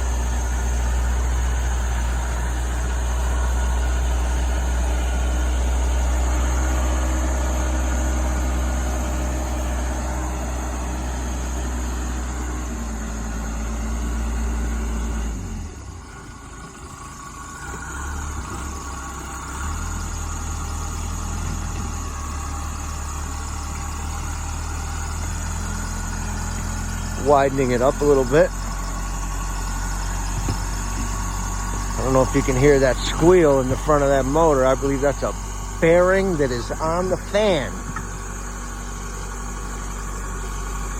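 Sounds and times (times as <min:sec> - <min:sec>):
backhoe loader engine running: 0:00.0 - 0:40.9.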